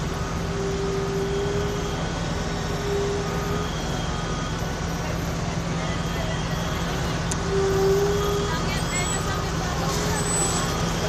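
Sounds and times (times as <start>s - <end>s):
fire engines droning: 0.0s - 11.0s
steady high tone: 0.0s - 11.0s.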